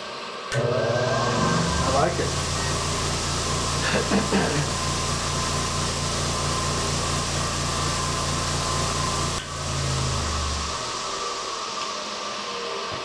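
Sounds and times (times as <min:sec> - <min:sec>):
electric motor humming: 0:00.6 - 0:11.6.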